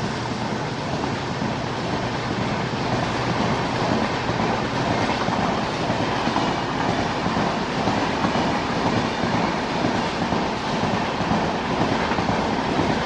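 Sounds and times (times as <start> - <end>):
train wheels running over rails: 0.0 - 13.0.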